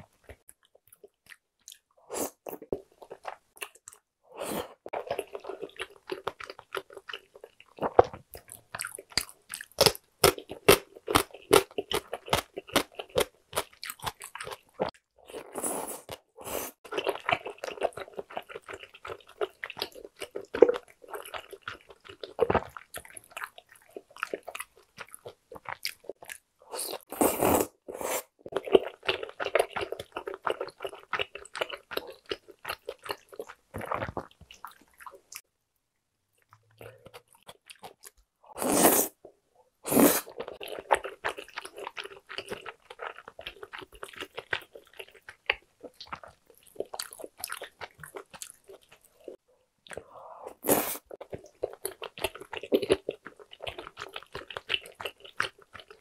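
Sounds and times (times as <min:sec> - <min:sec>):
person chewing with wet mouth noises: 0:00.1 - 0:35.4, 0:36.4 - 0:39.2, 0:39.9 - 0:56.0.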